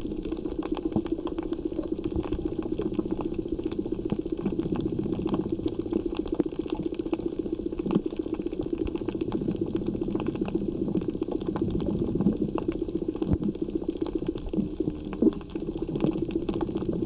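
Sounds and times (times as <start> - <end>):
dense crackle of clicks: 0.0 - 17.0
low underwater hum: 0.0 - 17.0.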